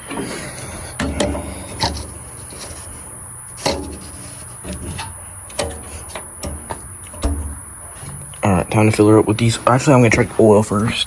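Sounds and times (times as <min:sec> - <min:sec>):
light knocks and clicks: 0:00.0 - 0:09.0.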